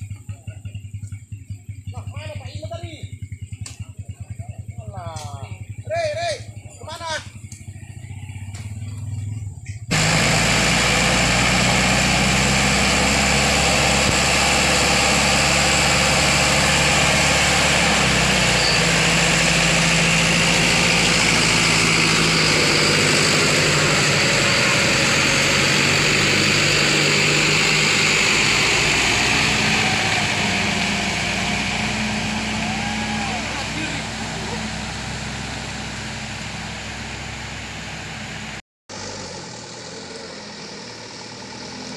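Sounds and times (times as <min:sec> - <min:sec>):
tractor engine under load: 0:00.0 - 0:41.9
truck engine running: 0:00.0 - 0:41.9.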